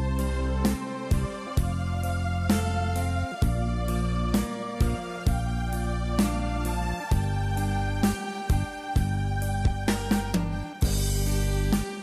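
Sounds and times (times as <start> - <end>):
deep bass: 0.0 - 11.9
instrumental music with steady beat: 0.0 - 12.0.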